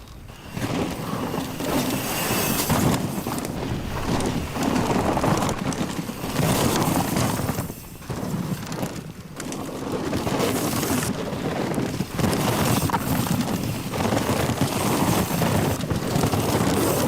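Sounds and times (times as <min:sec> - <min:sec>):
bicycle tyre noise: 0:00.0 - 0:17.0
bike rattling: 0:00.0 - 0:17.0.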